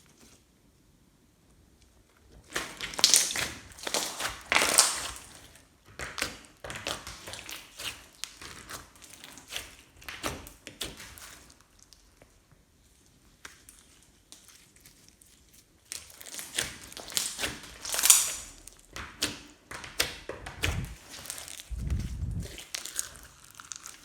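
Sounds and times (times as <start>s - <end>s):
slime with beads crackling: 2.4s - 24.0s.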